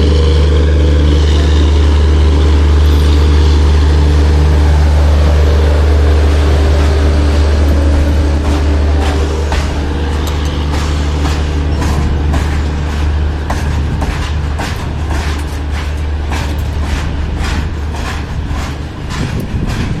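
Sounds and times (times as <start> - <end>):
low rumble of moving train: 0.0 - 20.0
train wheels clacking over rail joints: 0.0 - 20.0.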